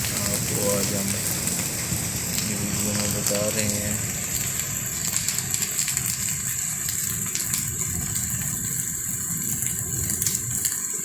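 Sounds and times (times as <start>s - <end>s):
raindrops tapping: 0.0s - 11.0s
steady rain falling: 0.0s - 11.0s.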